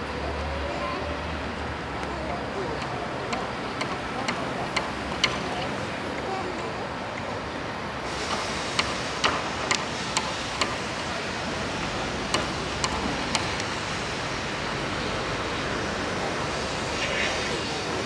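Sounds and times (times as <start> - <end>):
train approaching: 0.0 - 18.0
sharp clicks of train wheels: 2.0 - 6.4, 7.1 - 18.0.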